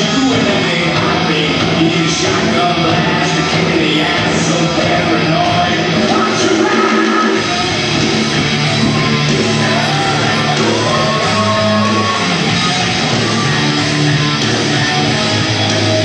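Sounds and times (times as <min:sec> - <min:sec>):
electric guitar: 0:00.0 - 0:16.0
rock song with singing: 0:00.0 - 0:16.0.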